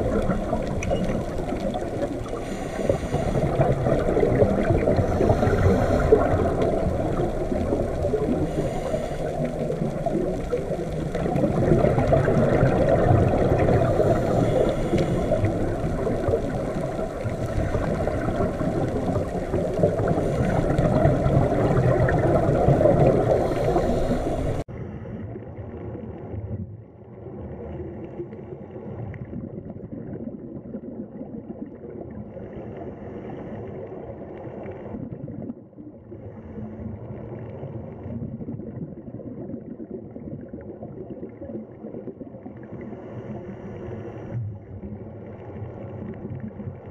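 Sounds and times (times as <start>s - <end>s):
dull underwater noise: 0.0s - 46.9s
muffled underwater rumble: 0.0s - 46.9s.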